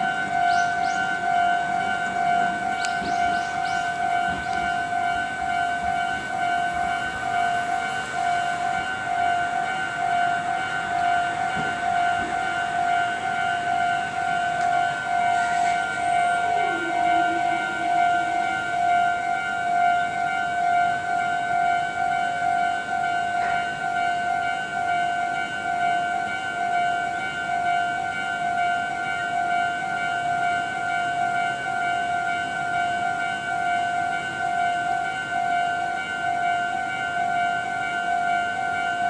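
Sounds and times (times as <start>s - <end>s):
level-crossing warning bell: 0.0s - 39.0s.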